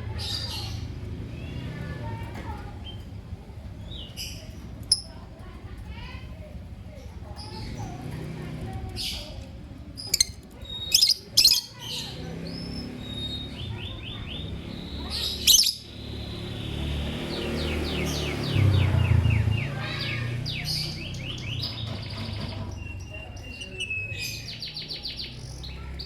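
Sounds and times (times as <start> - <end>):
lovebirds chirping and twittering: 0.0 - 5.2, 6.9 - 26.0.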